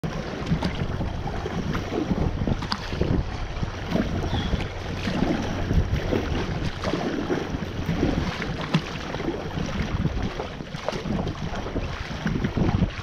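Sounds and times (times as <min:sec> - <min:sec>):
water splashing against kayak: 0:00.0 - 0:13.0
wind rumble on microphone: 0:00.0 - 0:13.0.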